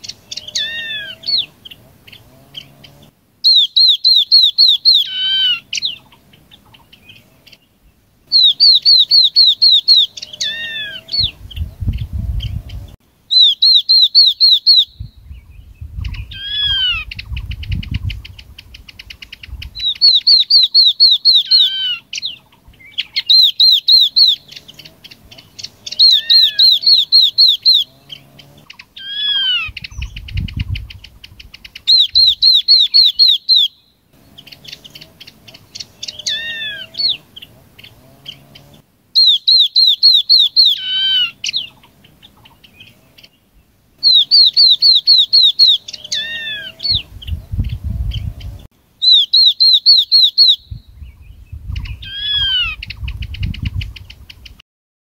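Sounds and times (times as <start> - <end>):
babbler song: 0.0 - 54.6.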